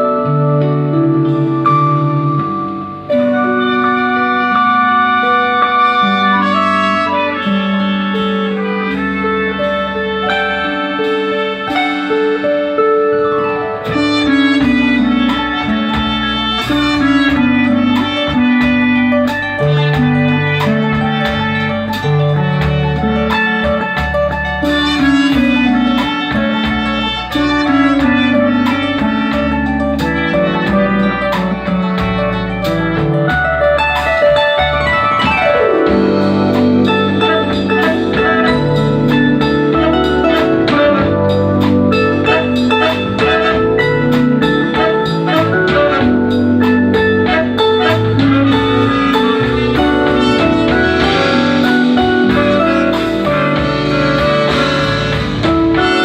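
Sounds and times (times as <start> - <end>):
instrumental music with bass line: 0.0 - 56.0.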